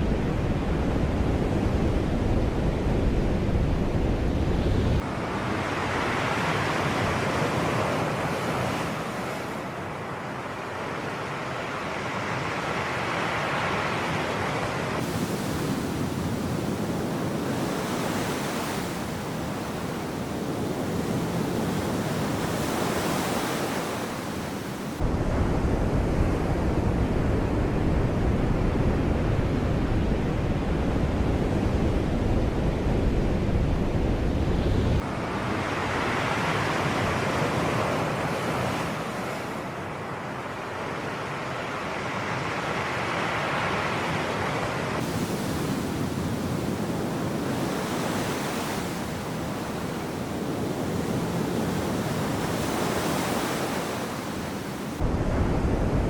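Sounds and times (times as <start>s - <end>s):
low wind rumble on microphone: 0.0s - 9.7s, 13.9s - 41.2s, 44.2s - 56.0s
sea waves washing in: 0.0s - 27.8s, 28.9s - 56.0s.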